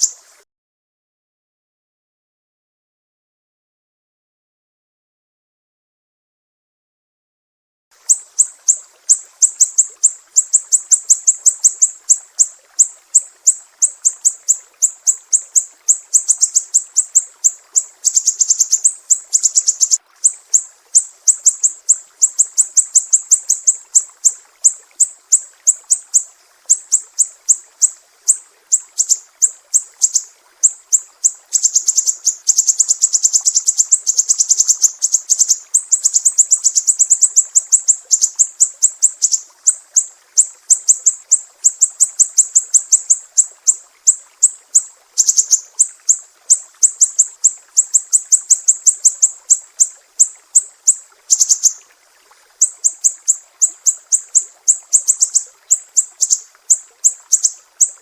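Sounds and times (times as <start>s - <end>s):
songbird singing high notes: 0.0s - 0.3s, 8.0s - 51.8s, 52.6s - 58.0s.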